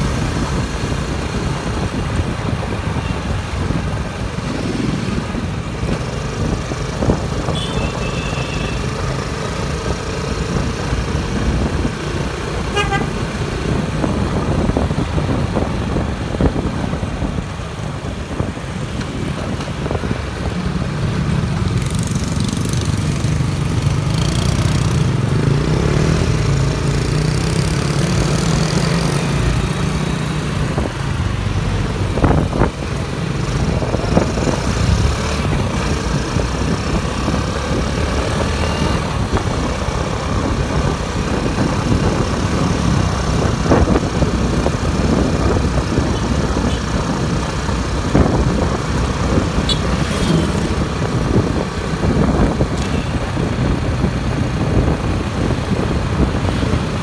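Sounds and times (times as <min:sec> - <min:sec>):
road and wind noise: 0:00.0 - 0:57.0
scooter engines humming: 0:00.0 - 0:57.0.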